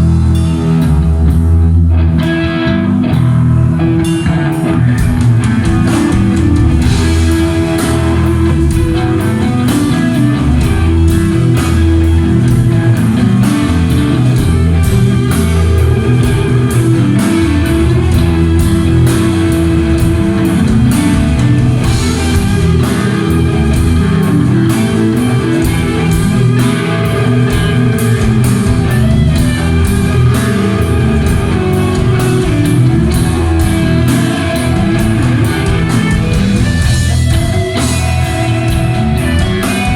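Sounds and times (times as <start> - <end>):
heavy metal band playing: 0.0 - 39.9.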